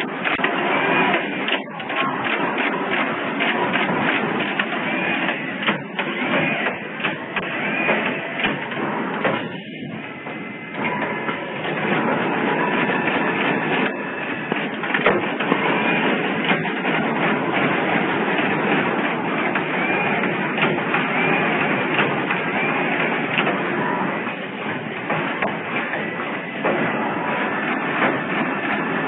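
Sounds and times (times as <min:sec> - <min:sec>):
machine clattering and clicking: 0:00.0 - 0:29.0.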